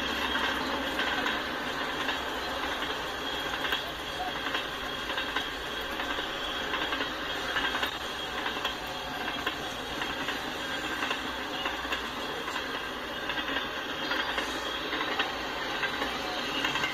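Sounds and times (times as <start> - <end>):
train wheels on rails: 0.0 - 16.9.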